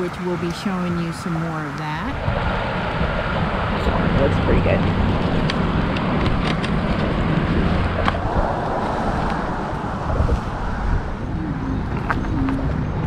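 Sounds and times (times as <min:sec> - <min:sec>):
wind and tyre noise: 0:00.0 - 0:13.0.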